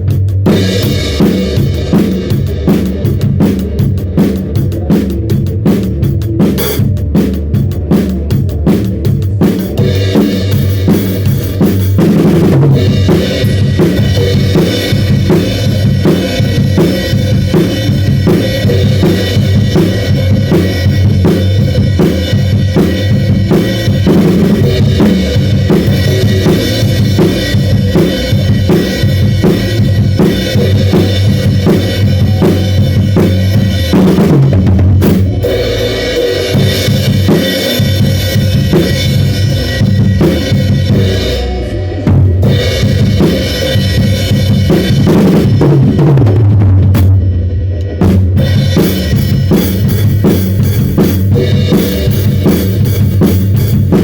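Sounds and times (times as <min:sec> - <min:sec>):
band backing music: 0:00.0 - 0:54.0
drum kit groove: 0:00.0 - 0:54.0.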